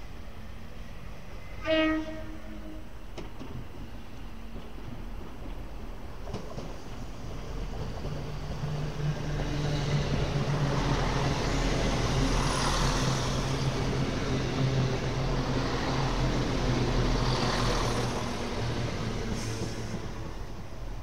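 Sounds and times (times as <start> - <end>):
diesel train engine hum: 0.0 - 21.0
train rushing noise: 0.0 - 21.0.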